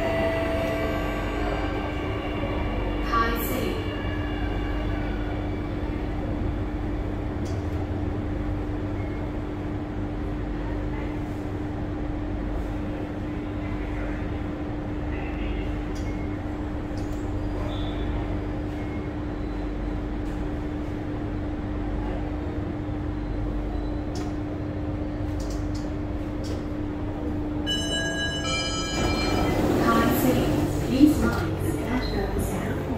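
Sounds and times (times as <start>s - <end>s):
constant low hum: 0.0s - 32.9s.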